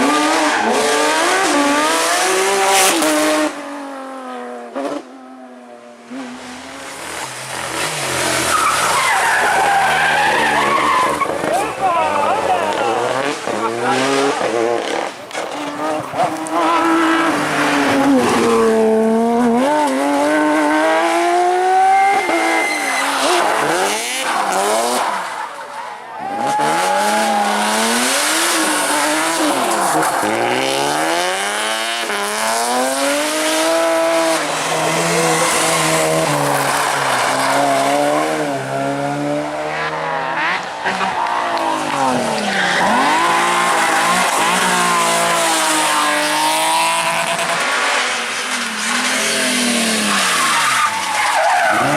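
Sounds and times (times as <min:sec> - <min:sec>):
rally car engines revving: 0:00.0 - 0:51.9
tyres skidding on loose surface: 0:06.2 - 0:51.9.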